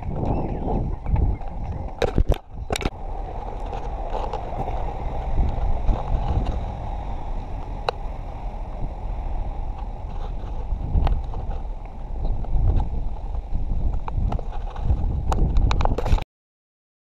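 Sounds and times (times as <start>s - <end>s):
jostling rumble: 0.0s - 16.2s
wind noise on microphone: 0.0s - 16.2s.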